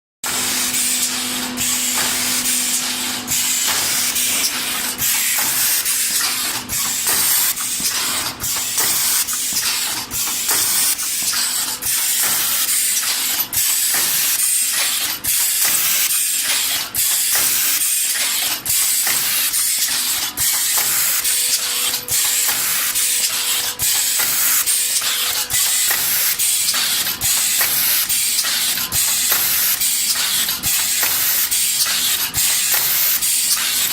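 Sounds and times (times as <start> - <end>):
machine running with loud hiss: 0.2 - 33.9.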